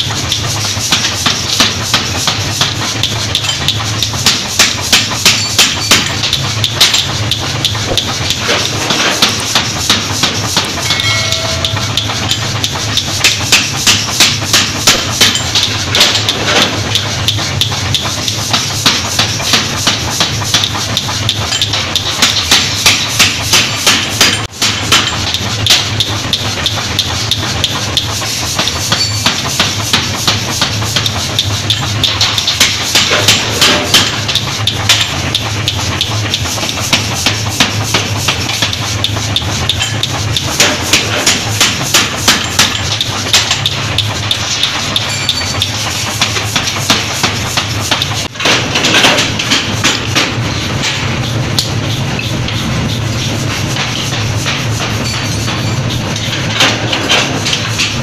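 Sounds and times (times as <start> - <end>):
low machine hum: 0.0 - 58.0
power hammer striking steel: 0.0 - 58.0.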